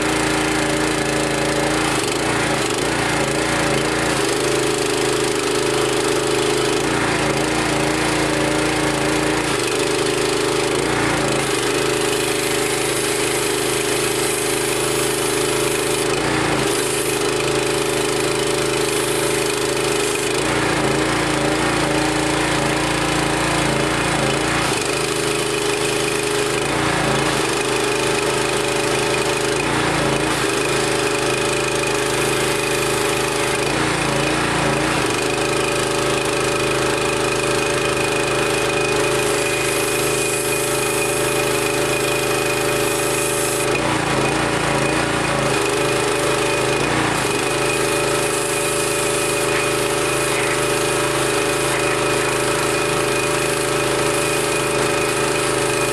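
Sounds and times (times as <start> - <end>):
pressure washer engine running: 0.0 - 55.9.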